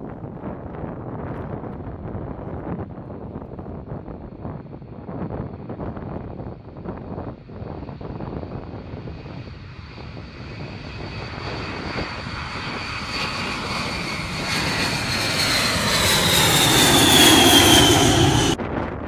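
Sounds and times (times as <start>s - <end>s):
jet aircraft taking off: 3.2s - 19.0s
high jet engine whine: 3.3s - 19.0s.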